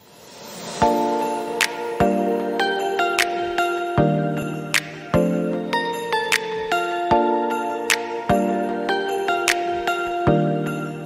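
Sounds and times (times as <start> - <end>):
soft new-age music: 0.5 - 11.0
bell-like notes: 0.6 - 11.0.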